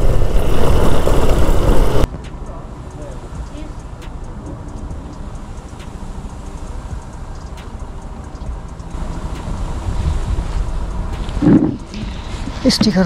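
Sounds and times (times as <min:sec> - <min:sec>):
motorcycle low rumble: 0:00.0 - 0:13.0.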